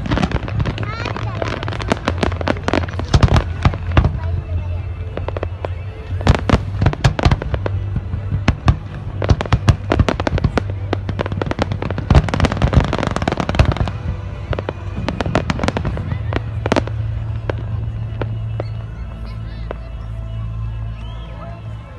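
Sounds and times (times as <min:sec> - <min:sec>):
fireworks bangs and crackling: 0:00.0 - 0:21.2.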